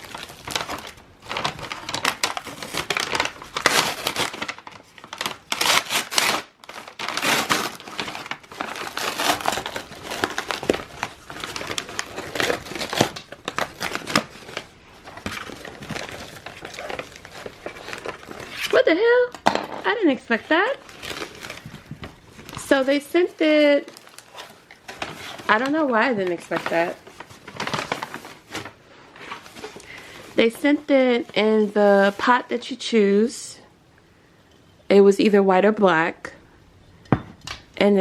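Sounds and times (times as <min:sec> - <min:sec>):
packaging crinkling and rustling: 0:00.0 - 0:32.6.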